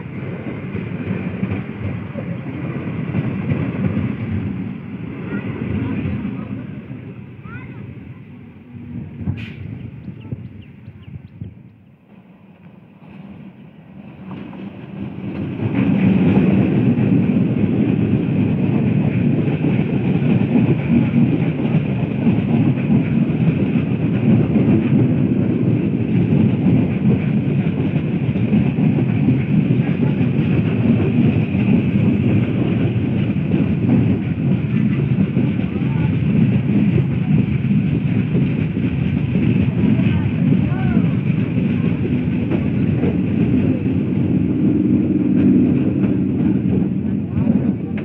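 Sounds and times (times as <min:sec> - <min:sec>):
electric train passing: 0:00.0 - 0:48.0
train wheels on rails: 0:00.0 - 0:48.0.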